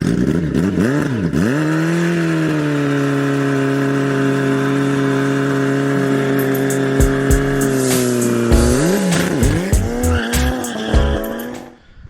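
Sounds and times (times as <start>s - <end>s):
engine revving: 0.0s - 11.7s.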